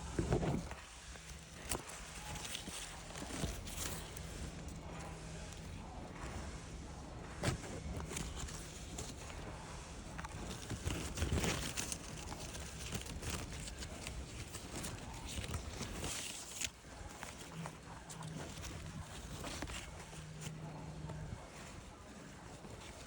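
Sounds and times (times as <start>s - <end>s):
faint low hum: 0.0s - 23.0s
rustling and handling noise: 0.0s - 23.0s.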